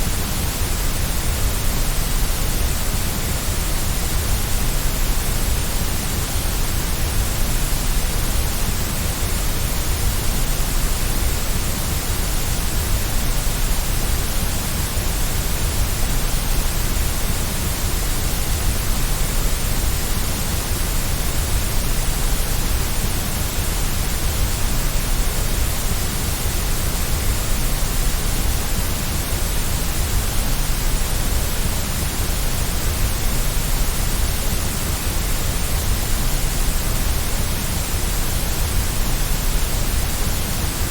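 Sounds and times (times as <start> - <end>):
steady white noise hiss: 0.0 - 40.9.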